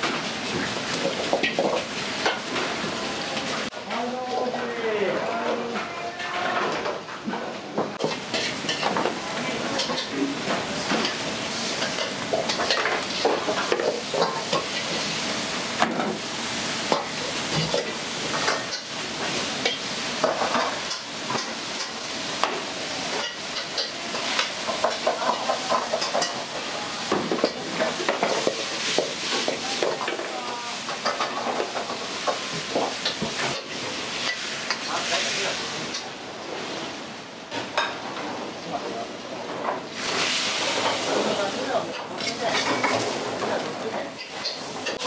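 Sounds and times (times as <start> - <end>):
ladle scraping and clanking on wok: 0.0 - 4.5, 5.2 - 45.0
food sizzling in a wok: 0.0 - 45.0.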